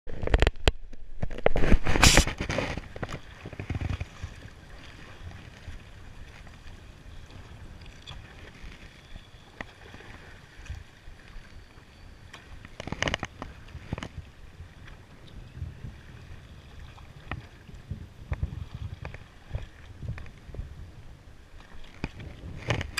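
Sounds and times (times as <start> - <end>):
wind: 0.1 - 22.9
water lapping around boat: 1.3 - 22.9.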